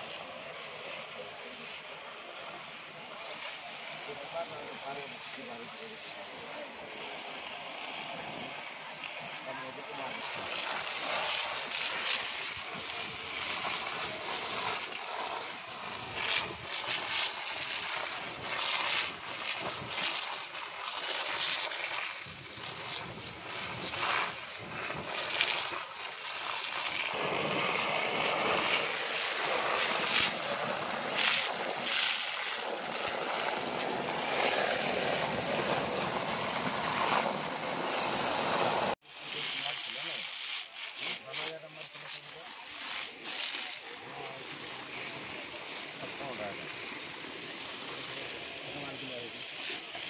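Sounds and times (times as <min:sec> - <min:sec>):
fire hose spraying water: 0:00.0 - 0:50.0.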